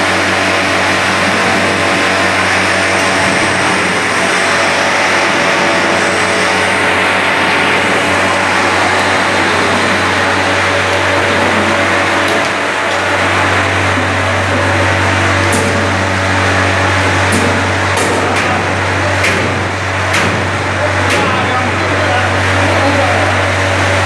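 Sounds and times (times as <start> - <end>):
loud steady frying hiss: 0.0 - 24.0
low machine hum: 0.0 - 24.0.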